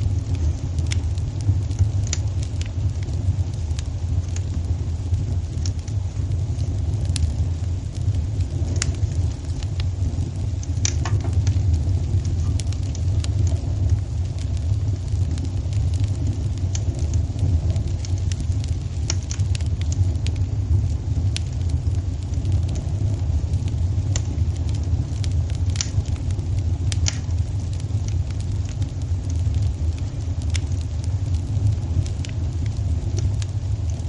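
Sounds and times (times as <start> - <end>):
fire crackling and popping: 0.0 - 34.0
fire rumbling: 0.0 - 34.0.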